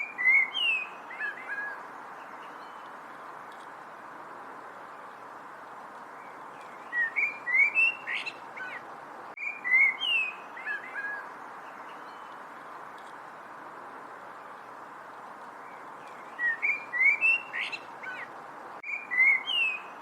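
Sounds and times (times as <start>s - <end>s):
songbird chirping: 0.0s - 20.0s
steady background hiss: 0.0s - 20.0s.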